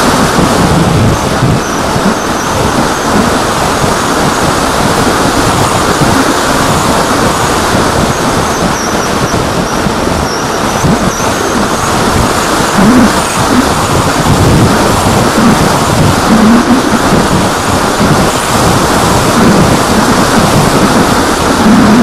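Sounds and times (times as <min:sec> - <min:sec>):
electric motor and propeller whine: 0:00.0 - 0:22.0
wind rushing over microphone: 0:00.0 - 0:22.0.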